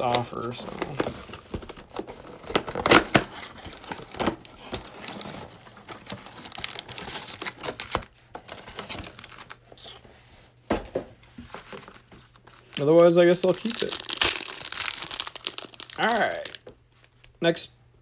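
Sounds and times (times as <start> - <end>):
cards rustling: 0.0 - 10.1, 11.4 - 17.3.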